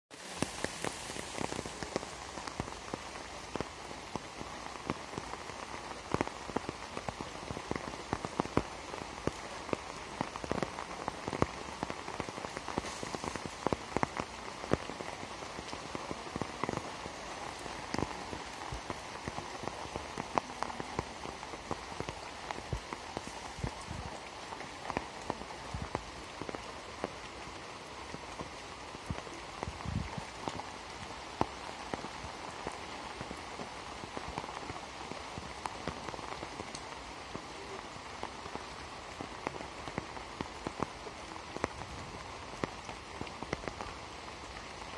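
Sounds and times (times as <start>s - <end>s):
heavy rain on pond and plants: 0.1s - 44.9s.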